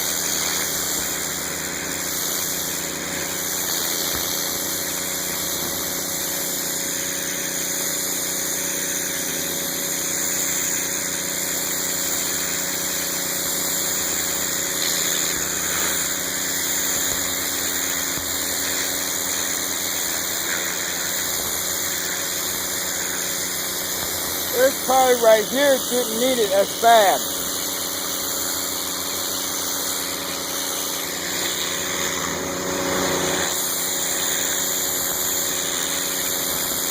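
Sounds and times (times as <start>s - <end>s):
high-pressure spray on concrete: 0.0s - 36.9s
pressure washer engine running: 0.0s - 36.9s.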